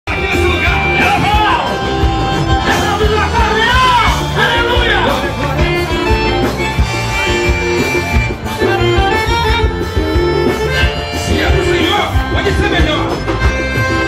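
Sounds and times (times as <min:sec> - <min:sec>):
live gospel band music: 0:00.0 - 0:14.0.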